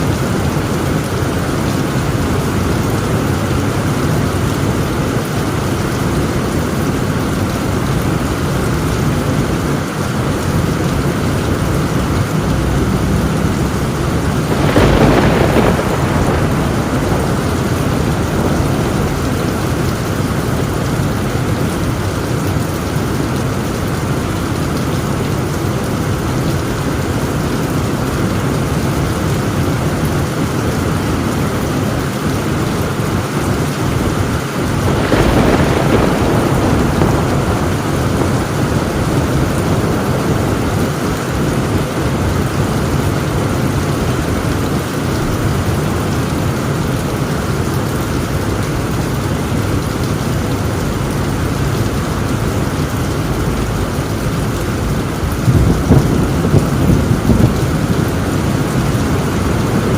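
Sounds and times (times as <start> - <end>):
heavy rain on a tin roof: 0.0 - 59.9
thunder clap rumbling: 0.0 - 59.9.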